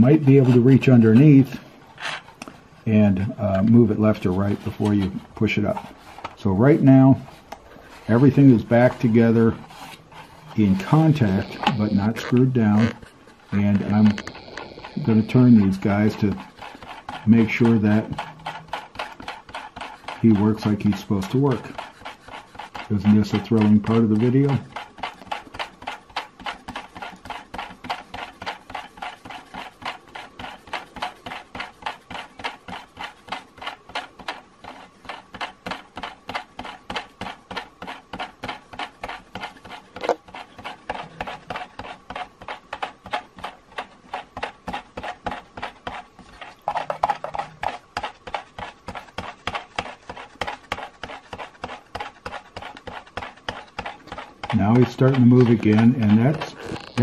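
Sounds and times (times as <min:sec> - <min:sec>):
faint steady whine: 0:00.0 - 0:57.0
toy gears clicking rapidly: 0:10.7 - 0:57.0.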